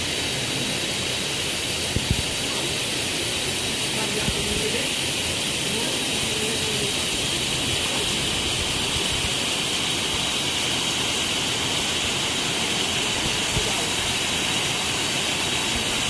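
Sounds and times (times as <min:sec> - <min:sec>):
high-pitched hiss: 0:00.0 - 0:16.0
river water rushing: 0:00.0 - 0:16.0.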